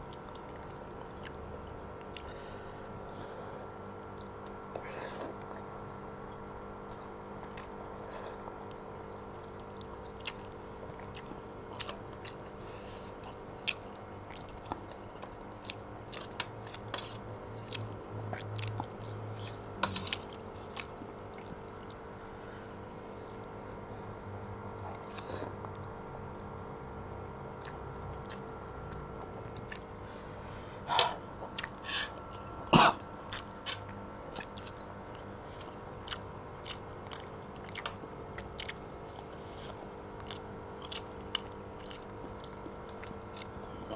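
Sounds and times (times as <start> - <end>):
close chewing with wet clicks: 0.0 - 2.4, 3.6 - 22.1, 22.7 - 23.6, 24.5 - 30.0, 31.4 - 32.4, 33.2 - 43.9
steady hum: 0.0 - 43.9.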